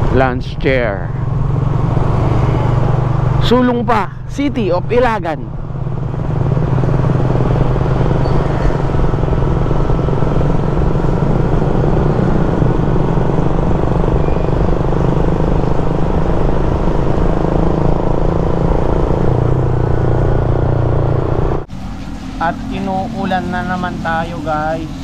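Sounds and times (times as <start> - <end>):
road and wind noise: 0.0 - 25.0
vehicle engine hum: 0.0 - 25.0.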